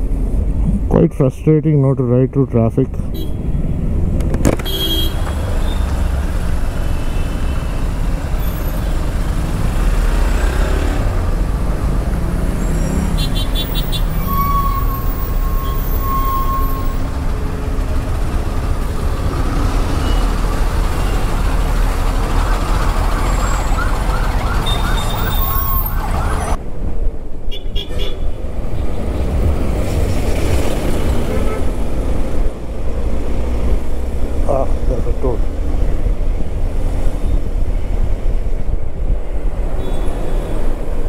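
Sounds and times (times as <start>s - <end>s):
traffic noise: 0.0s - 41.0s.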